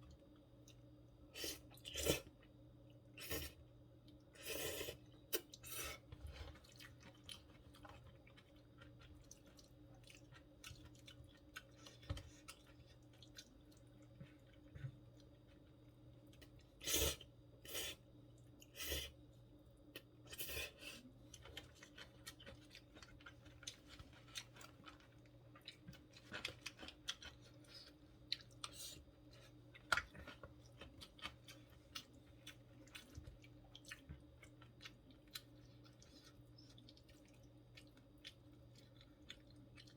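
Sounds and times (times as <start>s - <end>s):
faint steady hum: 0.0s - 39.9s
person chewing food: 0.1s - 19.2s, 19.8s - 39.9s.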